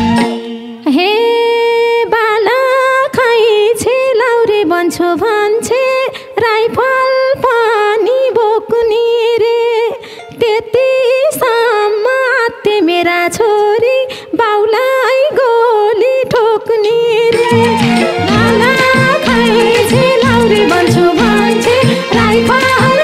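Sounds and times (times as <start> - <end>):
woman singing unaccompanied: 0.5 - 23.0.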